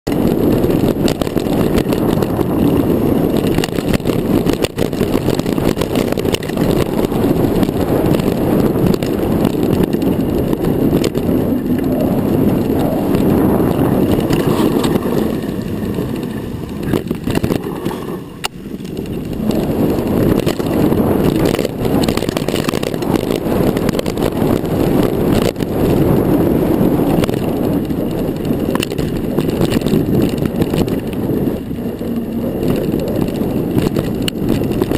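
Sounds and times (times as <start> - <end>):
bike knocks and rattles: 0.1 - 34.9
tyre and wind rush: 0.1 - 34.9.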